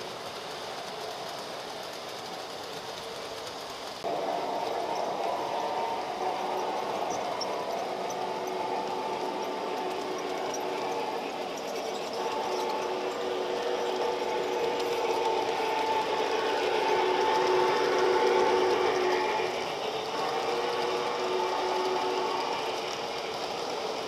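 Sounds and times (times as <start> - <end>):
model train motor whir: 0.0 - 24.0
wheels rattling on track: 0.0 - 24.0.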